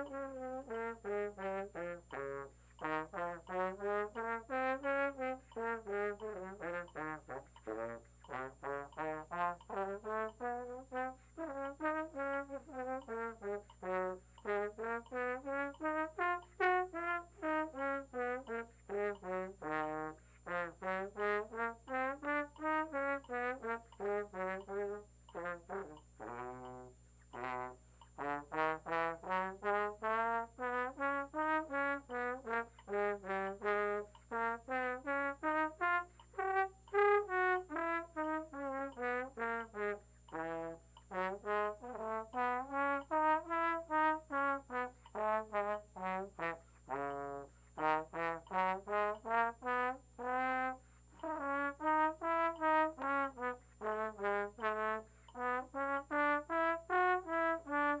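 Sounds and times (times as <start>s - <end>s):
trombone playing scales: 0.0s - 58.0s.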